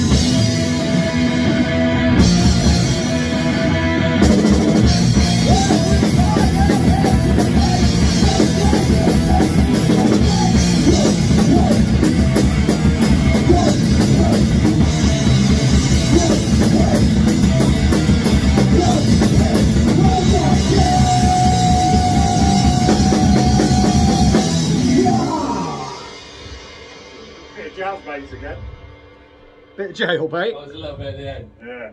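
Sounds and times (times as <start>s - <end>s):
thrash metal band playing live: 0.0s - 30.3s.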